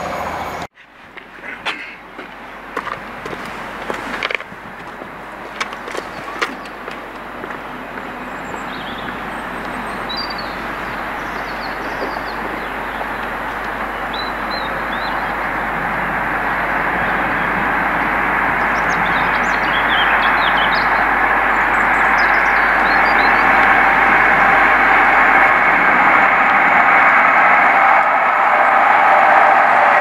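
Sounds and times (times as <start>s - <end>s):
birds chirping: 0.0s - 28.1s
passenger train approaching: 0.0s - 30.0s.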